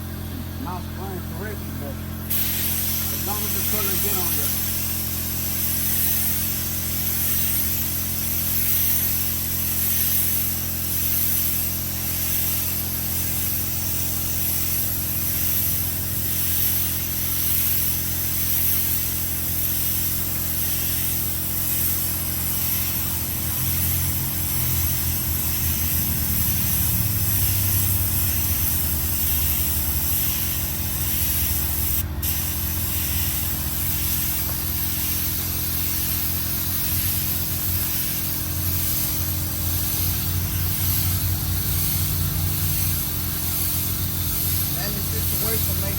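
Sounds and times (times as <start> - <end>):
paint spray gun hissing: 0.0 - 45.9.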